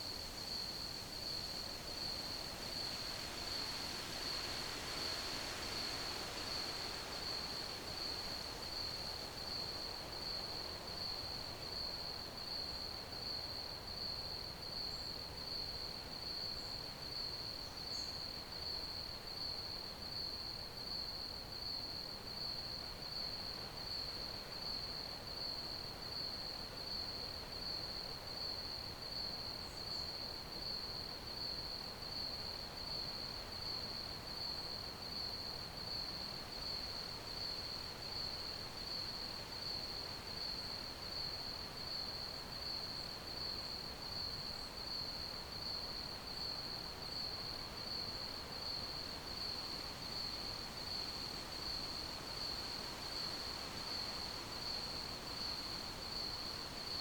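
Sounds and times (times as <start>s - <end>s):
faint hiss: 0.0s - 13.4s, 22.5s - 57.0s
crickets chirping: 0.0s - 21.1s, 22.4s - 57.0s.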